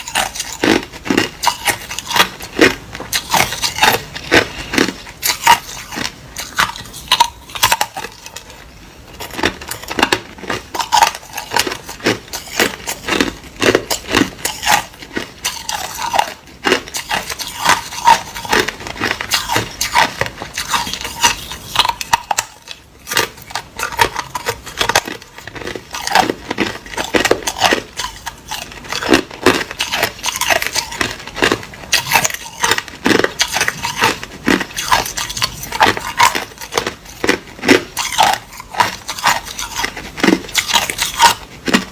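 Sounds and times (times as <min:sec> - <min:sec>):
ice being chewed: 0:00.0 - 0:41.9.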